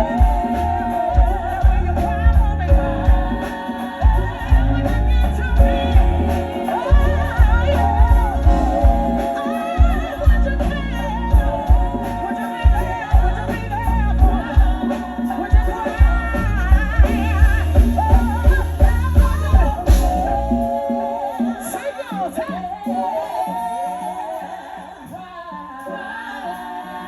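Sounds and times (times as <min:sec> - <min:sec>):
soul band with steady beat: 0:00.0 - 0:27.0
woman singing: 0:00.0 - 0:27.0.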